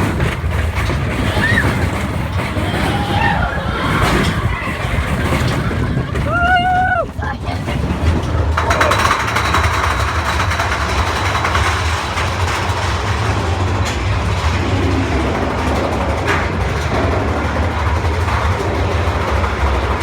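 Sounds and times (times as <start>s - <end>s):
cars rattling: 0.0s - 20.0s
roller coaster wheels rumbling: 0.0s - 20.0s.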